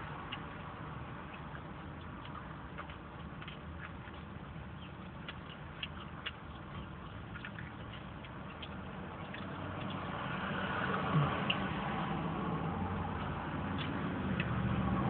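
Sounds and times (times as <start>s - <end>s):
vehicle running: 0.0s - 15.0s
person chewing: 0.1s - 14.6s.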